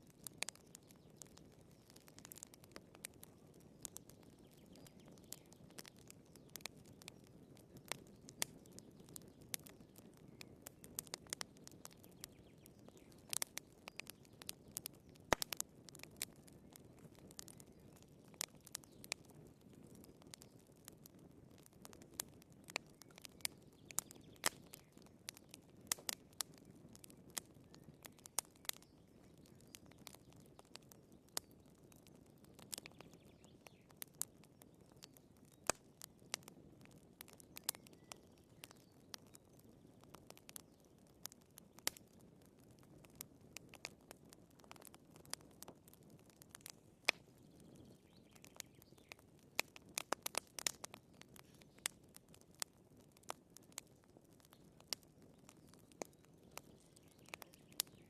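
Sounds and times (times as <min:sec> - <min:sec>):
firewood pops and snaps: 0:00.2 - 0:58.0.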